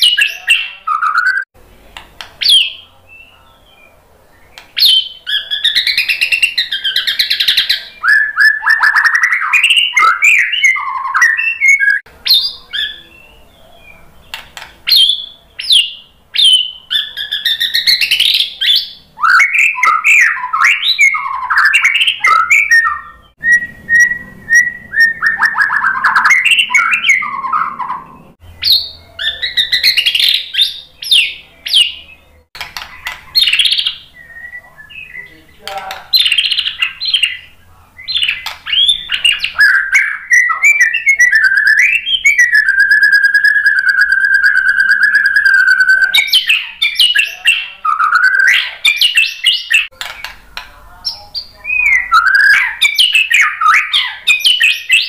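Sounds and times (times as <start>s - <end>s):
bird singing whistles and trills: 0.0s - 1.5s, 2.4s - 14.0s, 14.8s - 35.4s, 36.1s - 50.3s, 51.1s - 55.0s.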